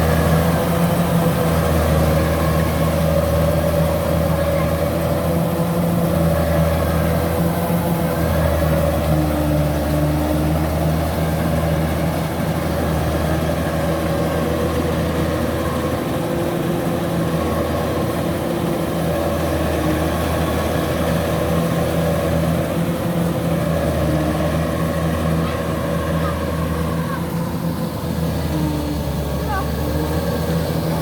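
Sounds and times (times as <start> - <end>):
combine harvester engine running: 0.0 - 31.0.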